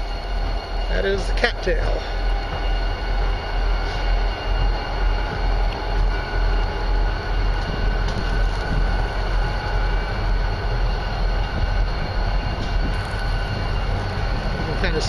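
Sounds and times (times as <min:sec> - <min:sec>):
wind buffeting microphone: 0:02.2 - 0:15.0.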